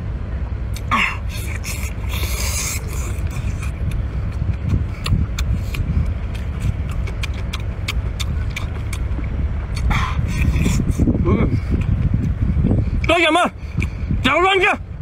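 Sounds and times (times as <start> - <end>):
low rumble: 0.0 - 15.0
wet chewing and sucking: 0.7 - 14.1.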